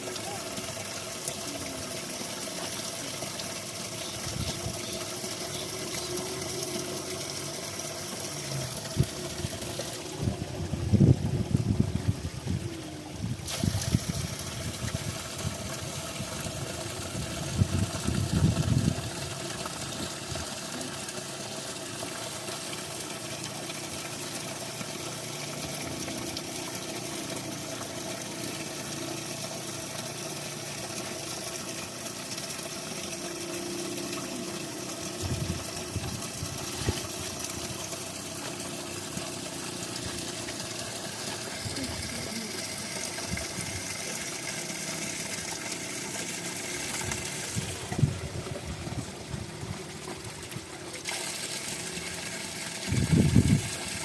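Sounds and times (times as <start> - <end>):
spring water running: 0.0 - 54.0.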